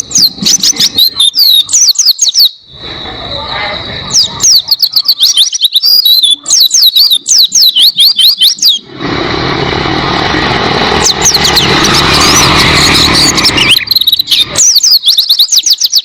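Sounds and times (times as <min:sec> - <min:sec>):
bird singing high chirps: 0:00.0 - 0:08.9, 0:11.0 - 0:16.0.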